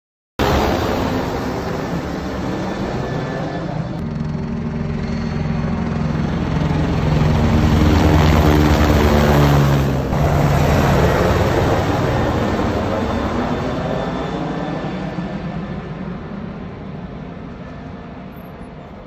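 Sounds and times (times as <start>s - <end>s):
helicopter rotor and engine beating: 0.4s - 19.0s.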